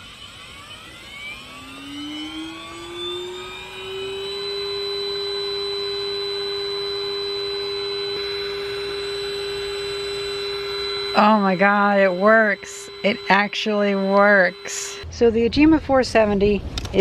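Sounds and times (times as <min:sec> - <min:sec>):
camera motor whine: 0:00.0 - 0:15.0.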